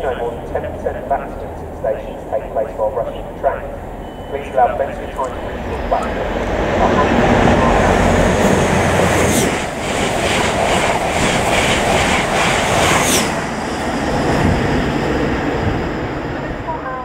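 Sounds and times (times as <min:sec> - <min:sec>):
train engine and rail noise: 0:00.0 - 0:17.0.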